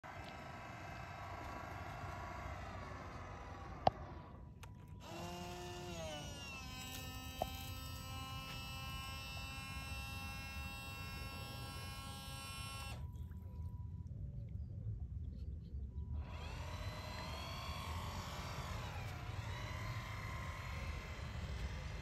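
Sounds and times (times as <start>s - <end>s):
electric motors whining: 0.0s - 13.3s, 16.2s - 22.0s.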